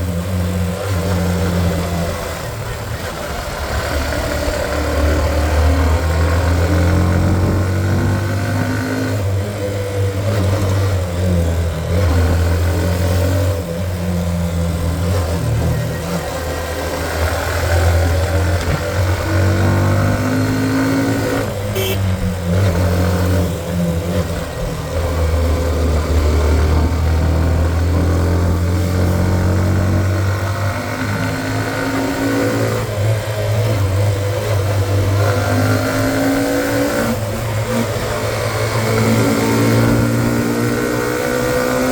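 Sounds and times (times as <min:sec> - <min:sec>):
motorcycle engine under load: 0:00.0 - 0:41.9.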